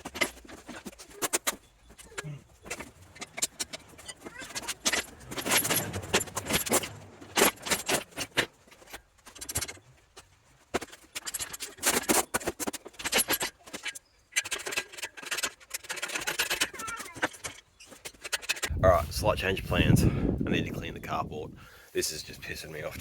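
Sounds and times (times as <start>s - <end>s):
metal clattering and scraping: 0.0s - 20.0s.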